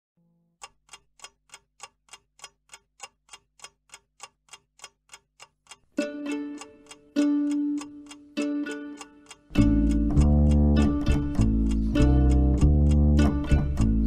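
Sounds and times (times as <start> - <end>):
clock ticking: 0.6 - 14.0.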